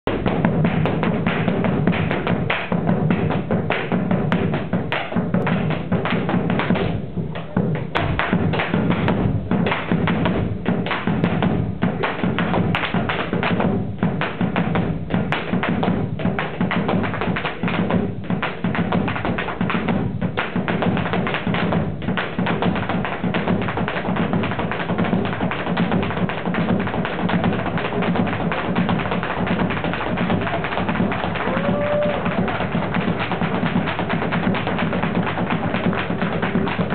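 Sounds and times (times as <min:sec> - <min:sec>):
drums beating: 0:00.0 - 0:36.9
balls tapping wooden floor: 0:00.1 - 0:36.9.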